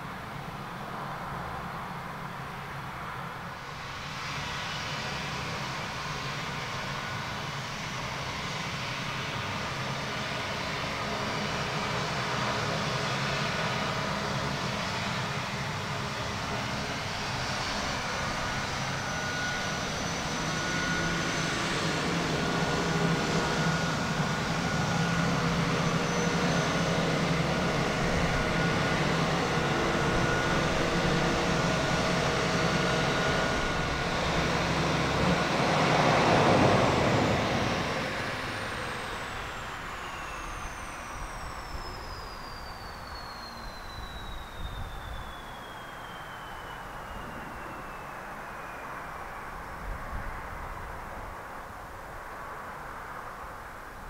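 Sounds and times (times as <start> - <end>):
turboprop engine running: 0.0 - 54.0.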